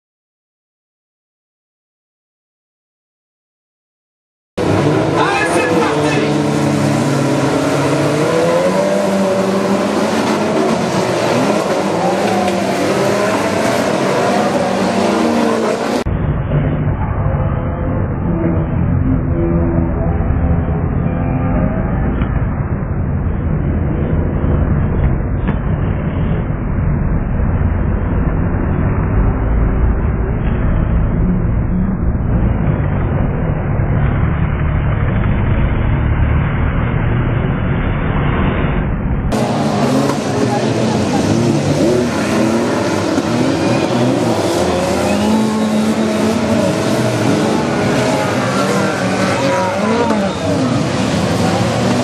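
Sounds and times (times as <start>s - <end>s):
racing car engines roaring: 4.6s - 52.0s.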